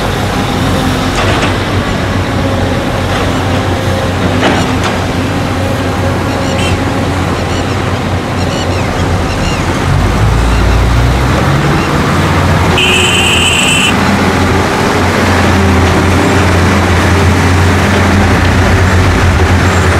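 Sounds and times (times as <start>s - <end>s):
heavy diesel engines running: 0.0s - 19.9s.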